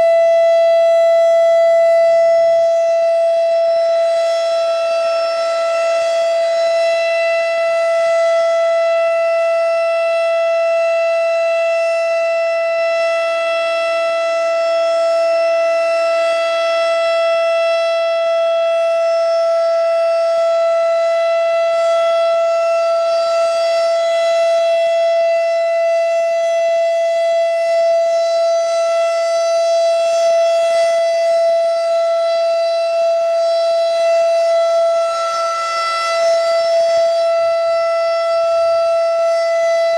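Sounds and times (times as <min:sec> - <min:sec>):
civil defense siren steady tone: 0:00.0 - 0:39.9.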